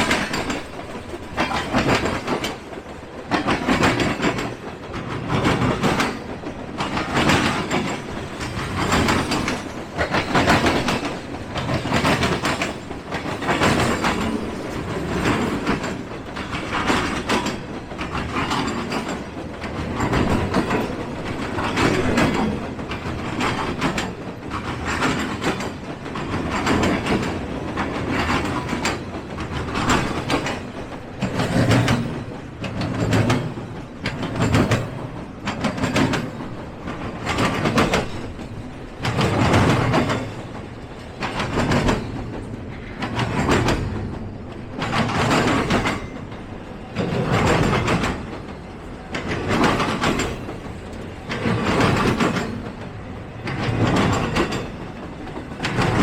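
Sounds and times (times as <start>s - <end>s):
train wheels clacking on rails: 0.0s - 56.0s.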